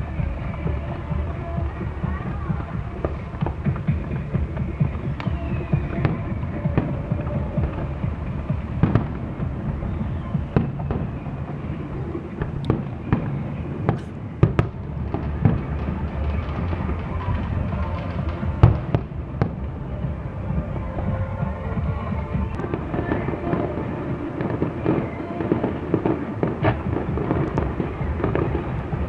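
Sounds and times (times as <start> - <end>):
fireworks bangs and pops: 0.0 - 29.0
steady low rumble: 0.0 - 29.0.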